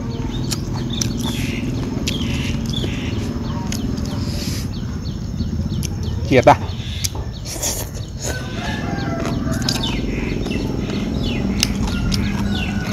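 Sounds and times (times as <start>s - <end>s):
person chewing food: 0.0s - 4.7s, 7.0s - 12.9s
small birds chirping: 0.0s - 12.9s
steady low hum: 0.0s - 12.9s.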